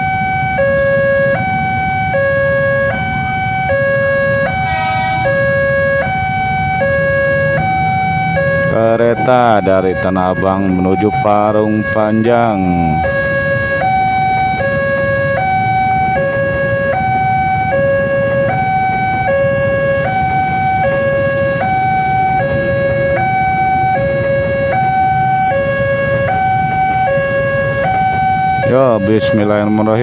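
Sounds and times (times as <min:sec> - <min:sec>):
two-tone crossing alarm: 0:00.0 - 0:30.0.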